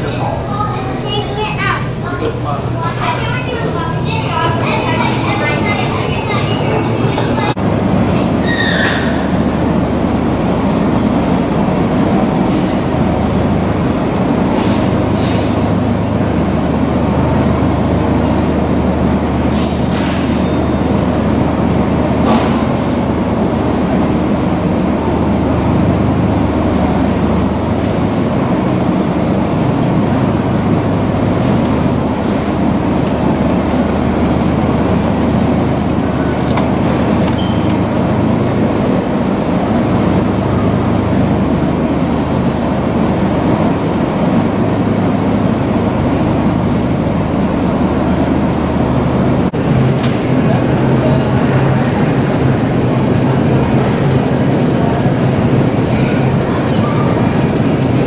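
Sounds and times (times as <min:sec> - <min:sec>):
low rumble of refrigerated cases: 0:00.0 - 0:58.0.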